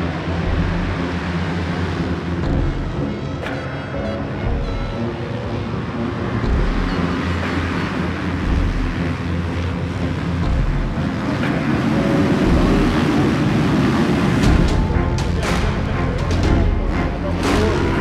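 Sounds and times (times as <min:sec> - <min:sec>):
motocross bike engines: 0:00.0 - 0:18.0.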